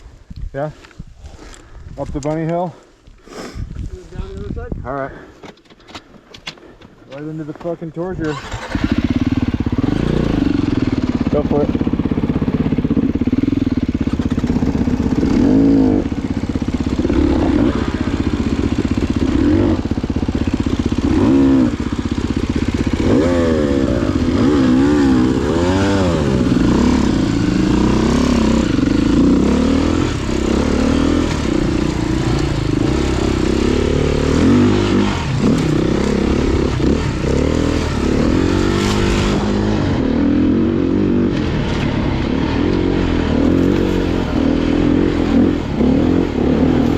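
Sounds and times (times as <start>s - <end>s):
dirt bike engine revving: 8.2s - 46.9s.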